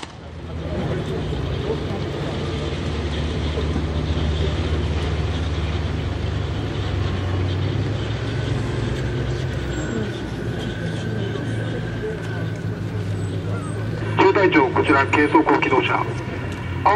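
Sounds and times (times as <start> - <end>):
vehicle engine rumble: 0.0 - 16.9.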